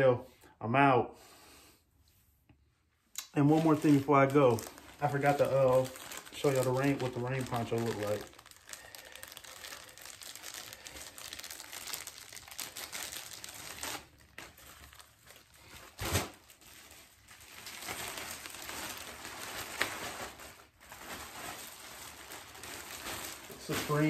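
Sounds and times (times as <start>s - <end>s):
plastic poncho crinkling: 3.2s - 24.0s.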